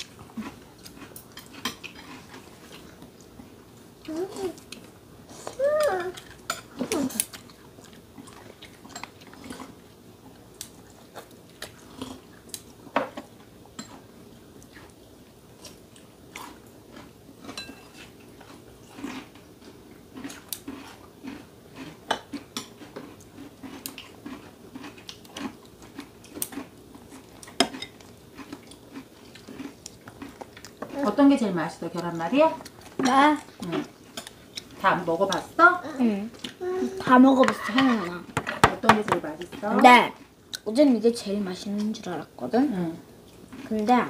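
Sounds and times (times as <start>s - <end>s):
chewing: 0.0s - 31.2s, 31.8s - 35.6s, 43.2s - 44.0s.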